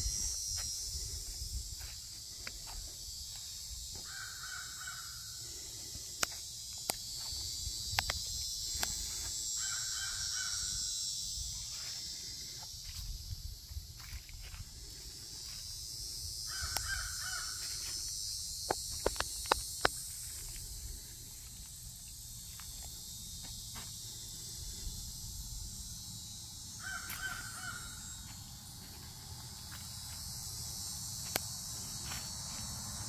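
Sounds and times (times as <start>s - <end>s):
high insect chorus: 0.0s - 33.0s.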